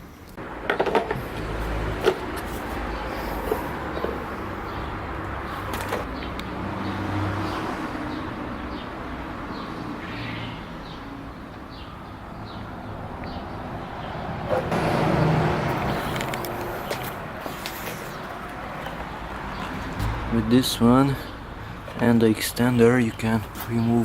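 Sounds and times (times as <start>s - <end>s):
traffic: 0.0s - 24.0s.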